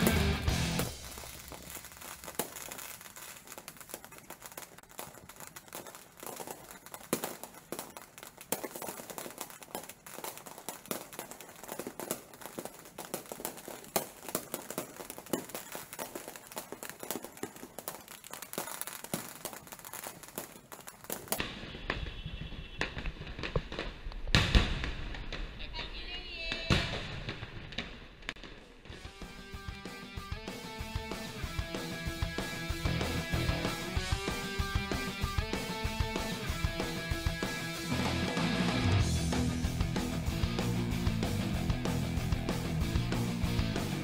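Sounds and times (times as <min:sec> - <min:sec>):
fireworks popping and crackling: 0:00.0 - 0:44.0.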